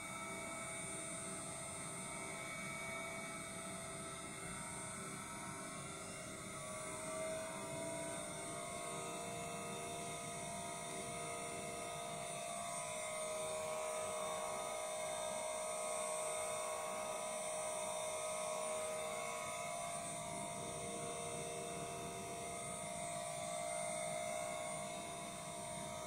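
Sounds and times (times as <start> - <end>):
router spindle whine: 0.0 - 26.0.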